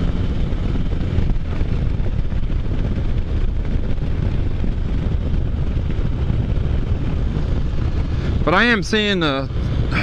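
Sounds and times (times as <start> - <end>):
engine running: 0.0 - 10.0
road noise: 0.0 - 10.0
wind buffeting microphone: 0.0 - 10.0.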